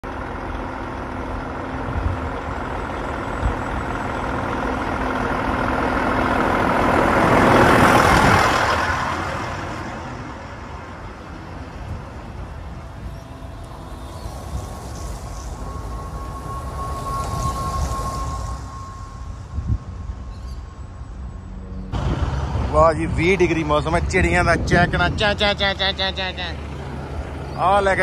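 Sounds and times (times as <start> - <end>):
heavy truck driving past: 0.0 - 28.0.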